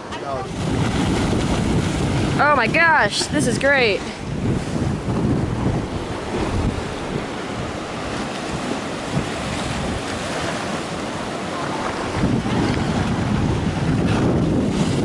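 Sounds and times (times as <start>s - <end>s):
sea waves breaking on rock: 0.0s - 15.0s
wind buffeting microphone: 0.0s - 15.0s.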